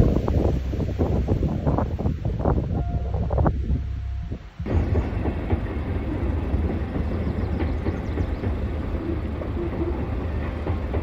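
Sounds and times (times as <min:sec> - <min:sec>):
freight train rumbling on bridge: 0:00.0 - 0:11.0.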